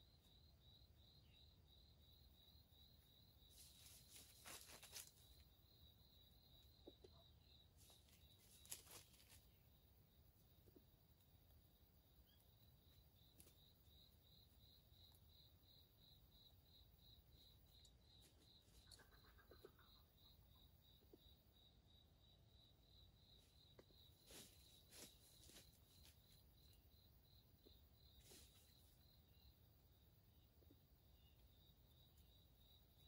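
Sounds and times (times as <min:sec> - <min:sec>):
insect chirping: 0:00.0 - 0:33.0.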